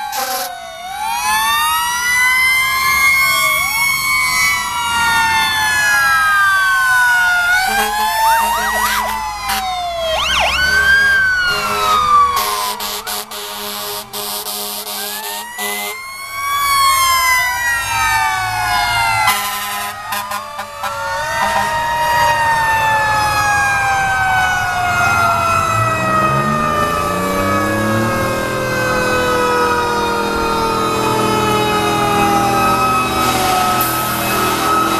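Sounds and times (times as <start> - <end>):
siren whooping chirps: 0.0 - 13.3, 14.2 - 34.9
fire engine sirens wailing: 0.0 - 34.9.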